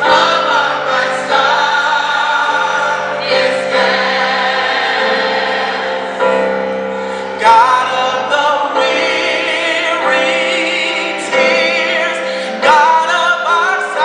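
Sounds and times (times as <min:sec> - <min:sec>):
youth choir singing: 0:00.0 - 0:14.0.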